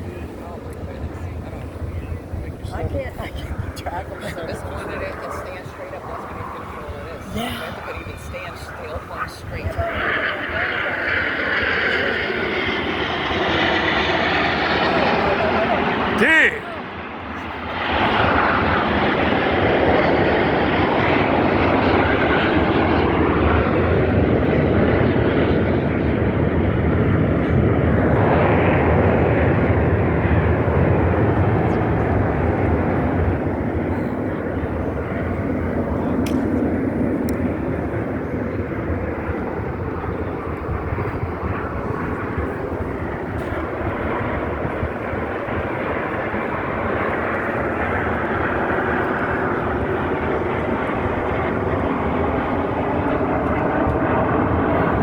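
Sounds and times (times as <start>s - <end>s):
aircraft engines roaring overhead: 0.0s - 55.0s.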